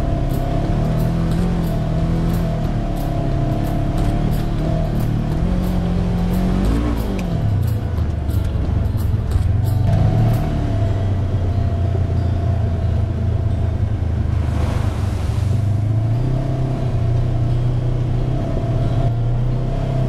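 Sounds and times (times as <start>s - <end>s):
utv engine running: 0.0s - 20.0s.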